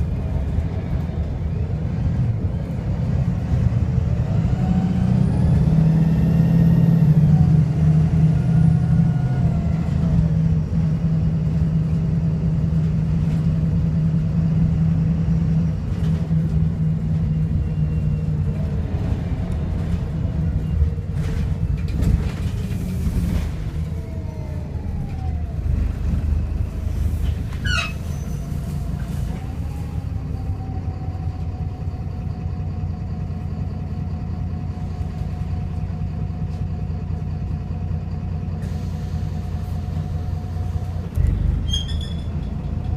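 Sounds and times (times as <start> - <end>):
bus diesel engine accelerating: 0.0 - 42.9.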